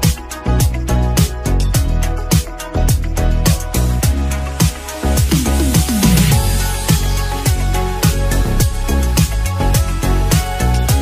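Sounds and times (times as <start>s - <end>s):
deep kick drum: 0.0s - 9.9s
electronic music: 0.0s - 11.0s.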